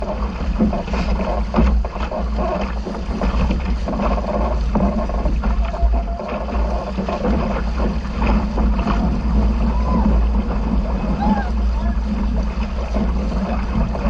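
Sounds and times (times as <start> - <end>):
boat noise: 0.0 - 14.0
water rushing: 0.0 - 14.0
wind rumbling on microphone: 0.0 - 14.0.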